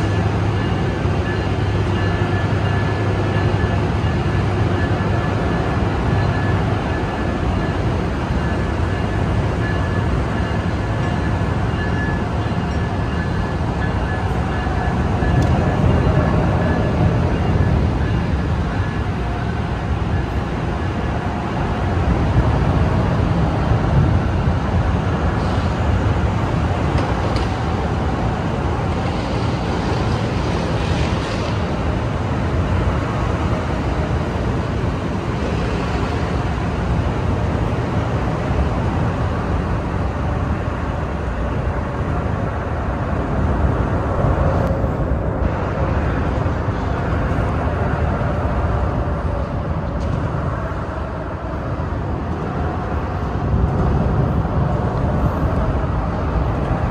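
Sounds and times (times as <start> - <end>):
standing train low rumble: 0.0 - 56.9.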